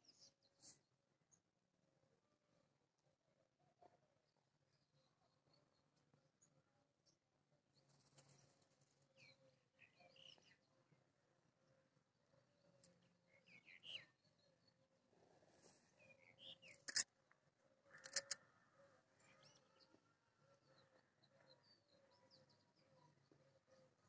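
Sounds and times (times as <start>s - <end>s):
faint small birds chirping: 0.0s - 1.5s, 4.2s - 11.1s, 11.7s - 17.0s, 17.8s - 24.0s.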